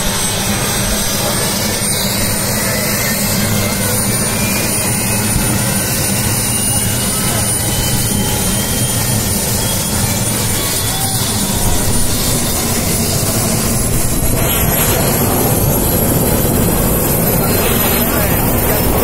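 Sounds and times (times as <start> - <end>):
helicopter rotor and engine: 0.0 - 19.0
high turbine whine: 0.0 - 19.0.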